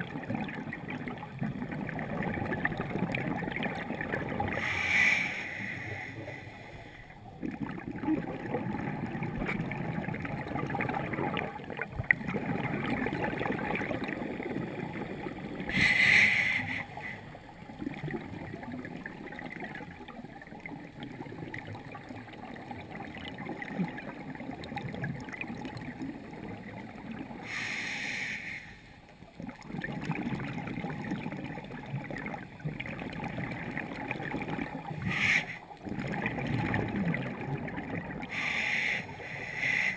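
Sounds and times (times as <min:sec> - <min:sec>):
muffled underwater rush: 0:00.0 - 0:27.8, 0:29.2 - 0:39.9.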